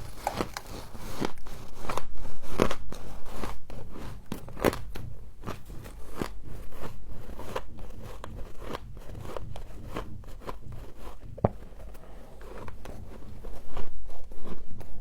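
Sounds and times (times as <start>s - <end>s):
frost being chewed: 0.0s - 15.0s.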